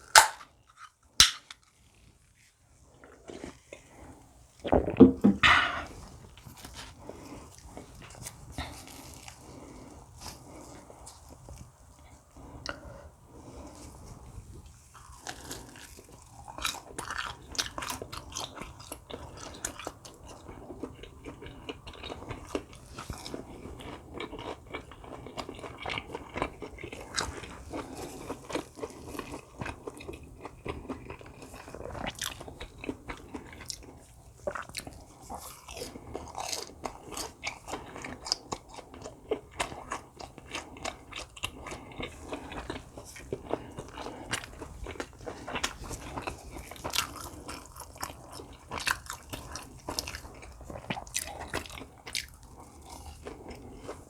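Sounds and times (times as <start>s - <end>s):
person chewing crunchy food: 0.0s - 2.2s, 2.8s - 54.0s.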